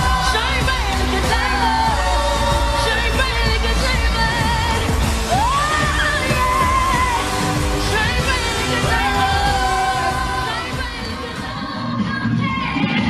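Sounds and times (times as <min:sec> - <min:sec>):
live pop band: 0:00.0 - 0:13.0.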